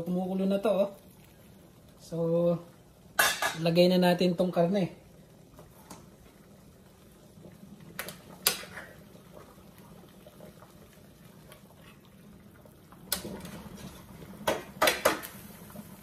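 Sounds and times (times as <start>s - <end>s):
water boiling in a pot: 0.0s - 16.0s.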